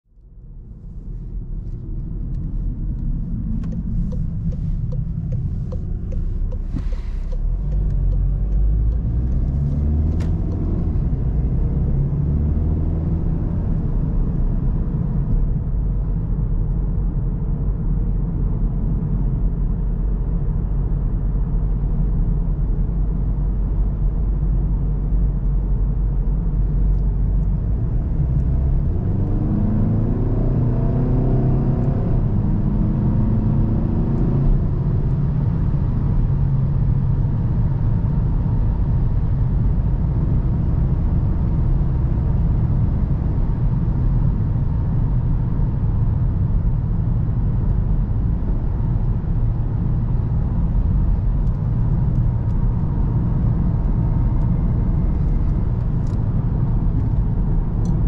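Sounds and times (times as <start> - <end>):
road rumble: 0.1 - 58.0
diesel car engine accelerating: 0.4 - 58.0.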